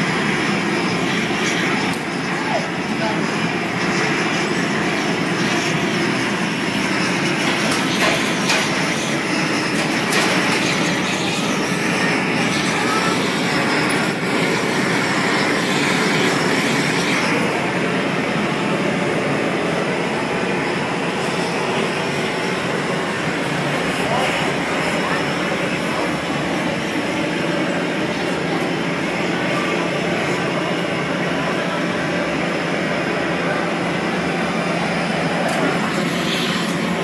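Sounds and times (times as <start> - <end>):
furnace and ventilation roar: 0.0 - 37.0.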